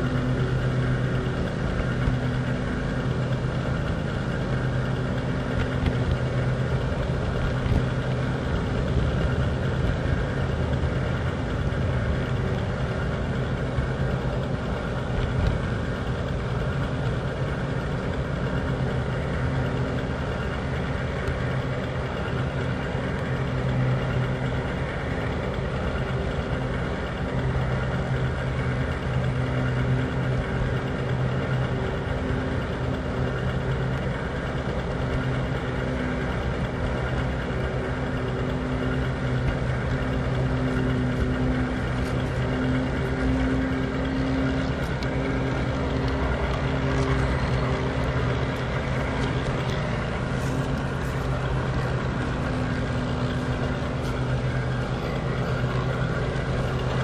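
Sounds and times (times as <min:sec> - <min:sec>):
model locomotive humming: 0:00.0 - 0:57.0.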